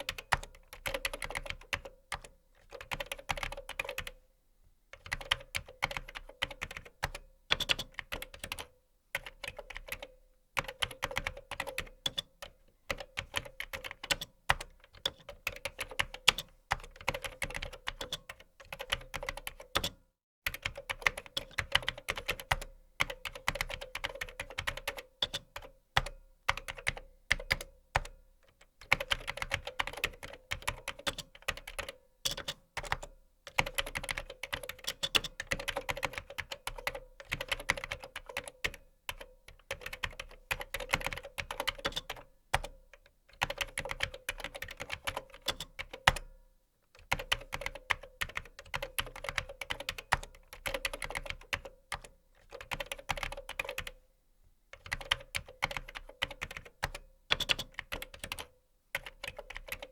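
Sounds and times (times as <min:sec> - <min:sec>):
computer keyboard typing: 0:00.0 - 0:04.2, 0:05.0 - 0:28.2, 0:28.8 - 0:46.3, 0:47.0 - 0:54.0, 0:54.8 - 0:59.9.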